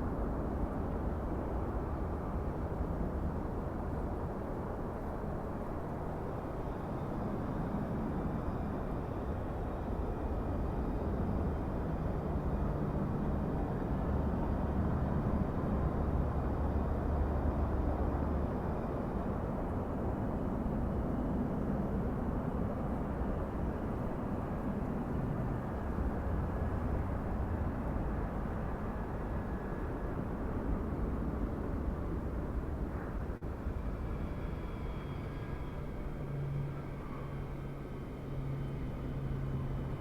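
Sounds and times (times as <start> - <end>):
airplane engines rumbling: 0.0 - 40.0.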